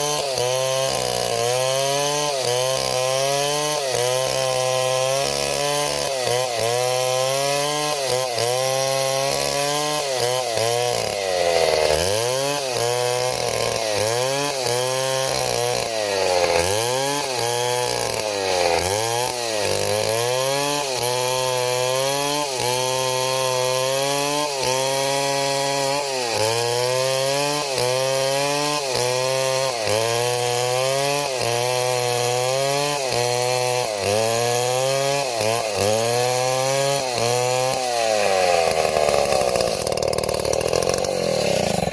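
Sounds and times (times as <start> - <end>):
chainsaw cutting into wood: 0.0 - 41.9.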